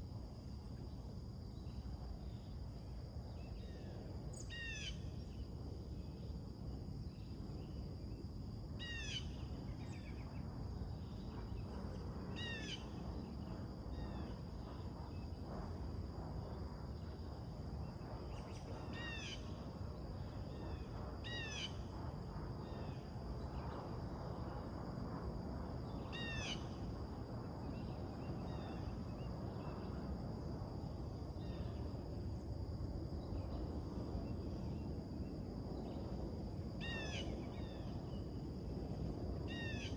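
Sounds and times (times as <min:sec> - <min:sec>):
low background rumble: 0:00.0 - 0:39.9.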